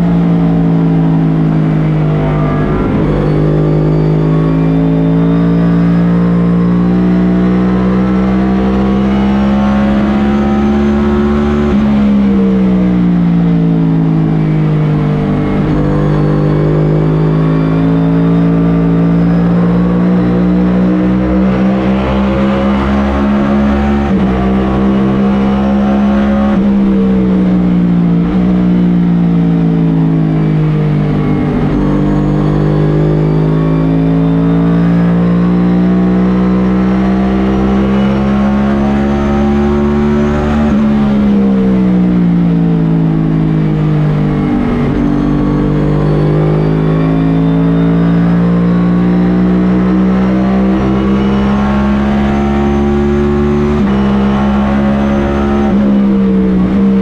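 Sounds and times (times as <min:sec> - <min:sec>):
race car engine at race pace: 0:00.0 - 0:57.0.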